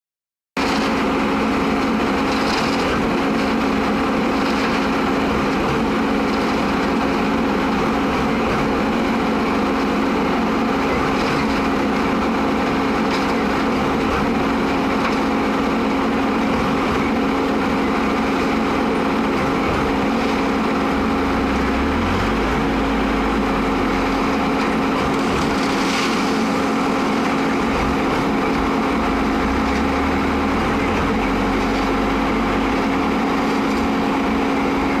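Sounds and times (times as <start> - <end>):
concrete pump diesel engine running: 0.6 - 35.0.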